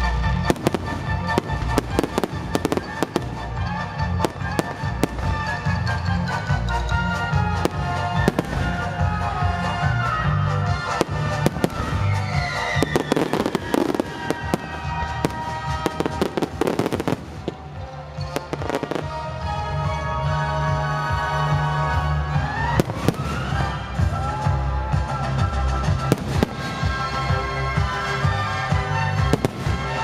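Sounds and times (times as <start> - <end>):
music with heavy bass: 0.0 - 17.5, 18.3 - 30.0
fireworks bursting: 0.1 - 19.6, 22.4 - 24.4, 25.7 - 30.0.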